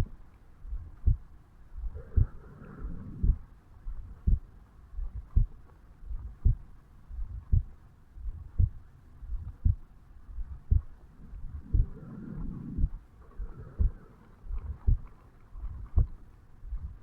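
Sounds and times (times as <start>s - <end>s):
heartbeat double thump: 0.7s - 15.0s, 15.6s - 17.0s.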